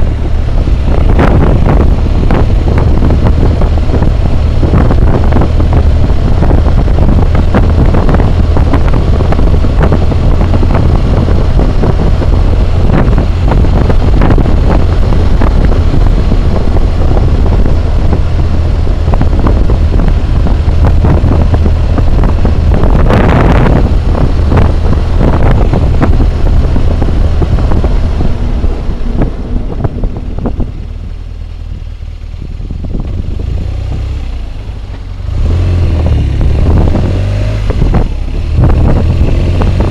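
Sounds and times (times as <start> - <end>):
deep steady drone: 0.0 - 39.9
wind buffeting microphone: 0.0 - 39.9.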